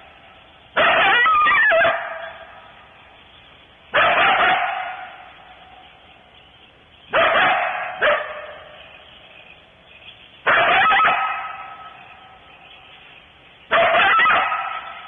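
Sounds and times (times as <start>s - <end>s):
coyotes barking: 0.0s - 15.0s.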